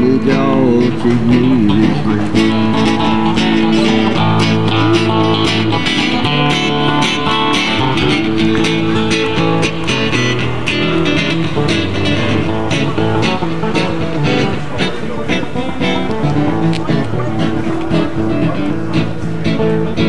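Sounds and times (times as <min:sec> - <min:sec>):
acoustic guitars strumming: 0:00.0 - 0:20.0.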